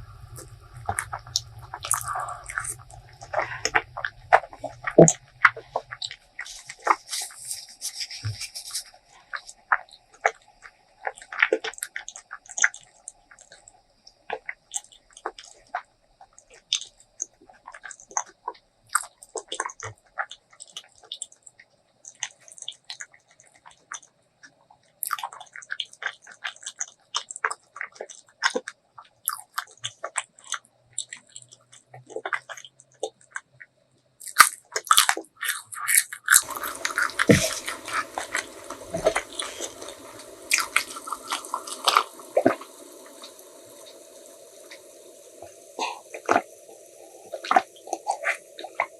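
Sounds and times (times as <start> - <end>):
person chewing crunchy food: 0.3 - 24.1, 24.9 - 33.6, 34.2 - 48.9.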